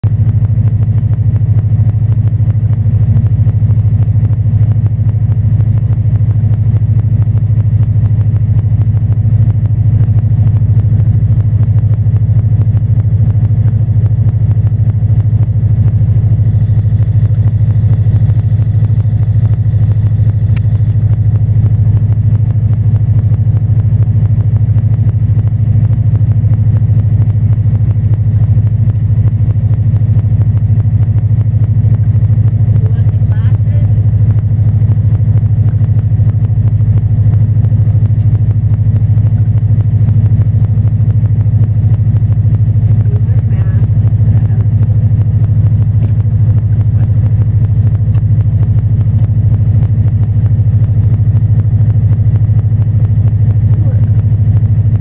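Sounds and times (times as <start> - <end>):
boat engine low hum: 0.0 - 55.0.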